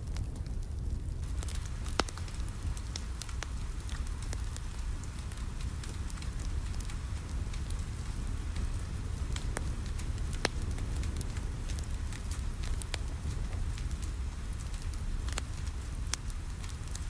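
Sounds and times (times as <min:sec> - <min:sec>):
fire popping: 0:00.0 - 0:17.0
wood fire crackling: 0:00.0 - 0:17.0
rain on a window: 0:01.1 - 0:17.0.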